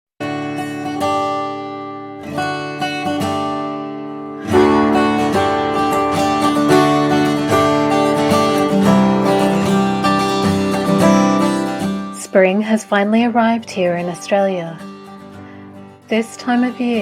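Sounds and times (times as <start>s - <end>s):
acoustic guitar playing: 0.2s - 17.0s.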